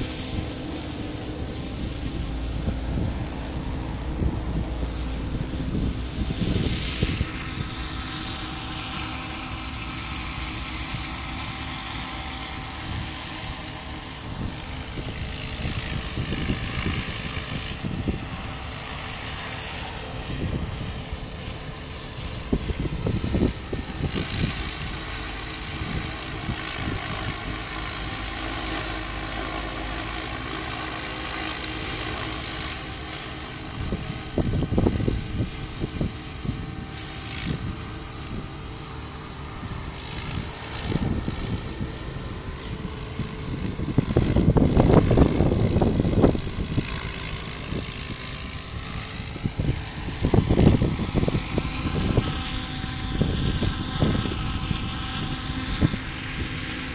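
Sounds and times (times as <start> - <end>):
model helicopter rotor whine: 0.0 - 56.9
wind buffeting microphone: 0.0 - 56.9.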